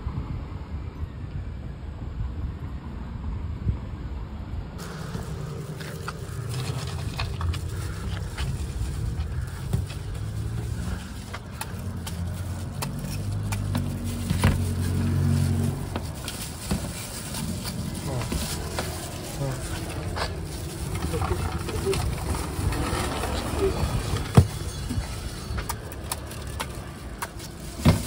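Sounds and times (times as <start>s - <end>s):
street traffic: 0.0s - 28.0s
vehicle engine running: 4.8s - 28.0s.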